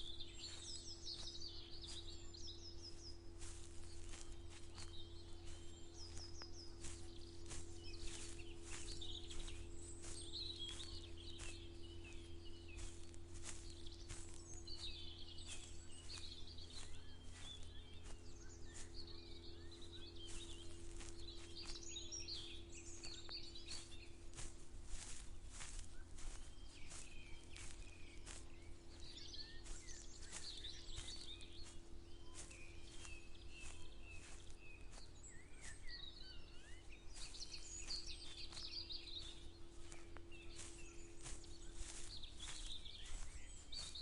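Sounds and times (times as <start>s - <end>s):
footsteps walking: 0.0s - 44.0s
small birds chirping: 0.0s - 44.0s.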